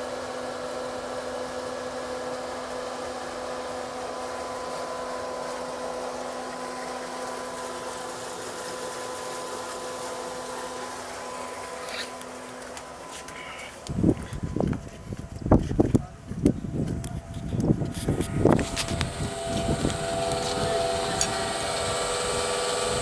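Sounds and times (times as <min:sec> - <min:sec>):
pump drive whirring hum: 0:00.0 - 0:23.0.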